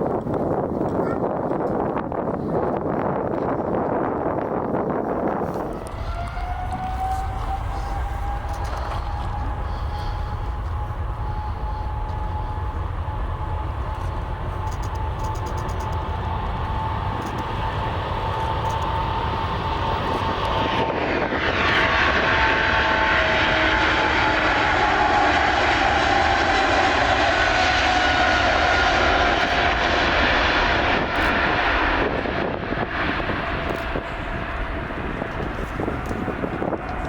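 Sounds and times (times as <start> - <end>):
jet engines whining: 5.0 - 37.0.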